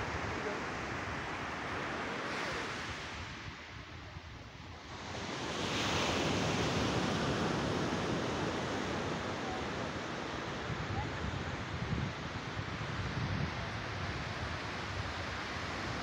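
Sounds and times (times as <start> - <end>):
ocean surf washing on beach: 0.0 - 16.0
wind on microphone: 2.6 - 16.0.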